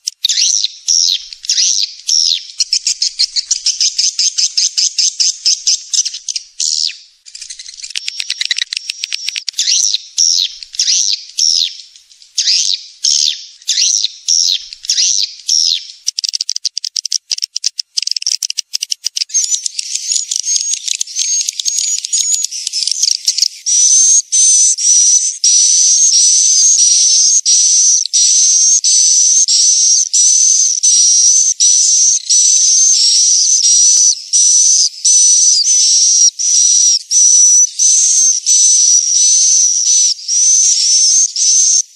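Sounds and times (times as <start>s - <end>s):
high whistled chirps: 0.0s - 16.0s, 19.3s - 41.9s
swiftlet twittering chirps: 0.0s - 41.9s.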